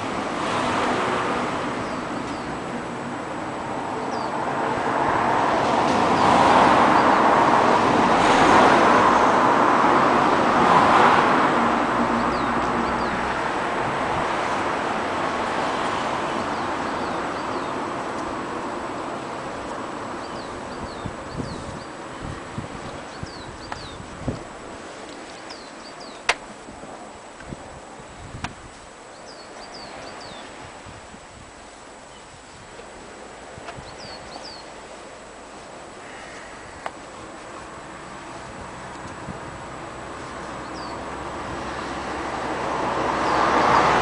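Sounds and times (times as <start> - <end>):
vehicle passing: 0.0 - 26.2, 33.4 - 44.0.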